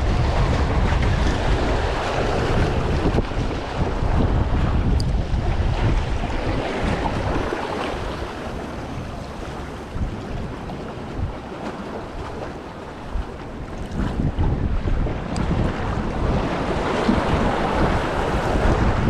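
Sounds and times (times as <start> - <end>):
sea waves washing against rocks: 0.0 - 19.0
wind buffeting microphone: 0.0 - 19.0.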